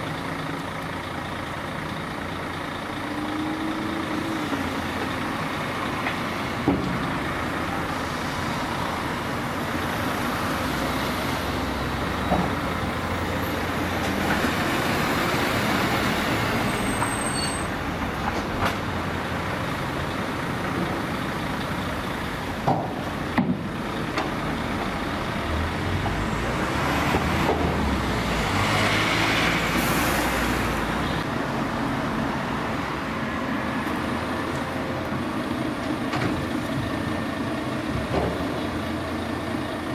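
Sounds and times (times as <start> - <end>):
truck engine idling: 0.0 - 26.2, 33.8 - 39.9
excavator diesel engine: 0.0 - 39.9.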